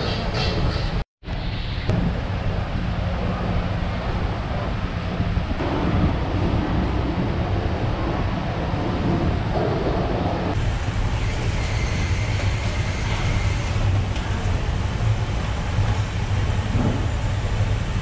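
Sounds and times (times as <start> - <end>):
strong hum: 1.2 - 18.0.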